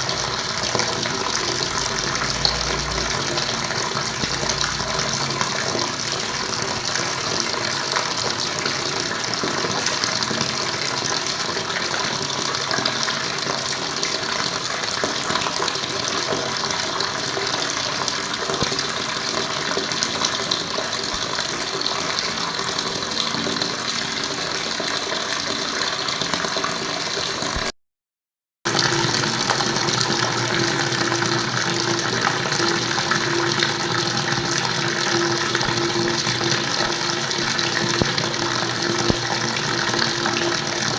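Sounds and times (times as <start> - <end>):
running water rushing: 0.0 - 27.7, 28.7 - 40.9.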